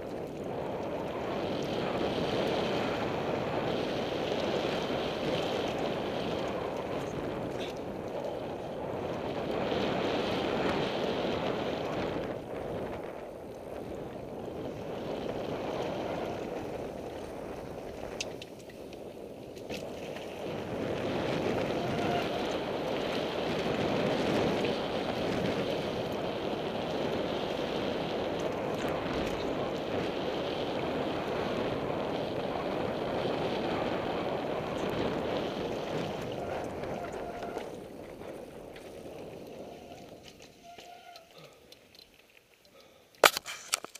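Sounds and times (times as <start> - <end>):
wind on microphone: 0.0 - 41.5
bike rattling: 0.0 - 43.9.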